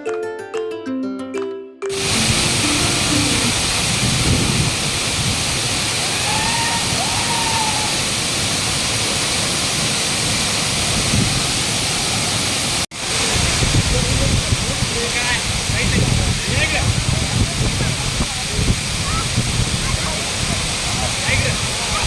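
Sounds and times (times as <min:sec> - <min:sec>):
waterfall rushing: 0:01.9 - 0:22.0.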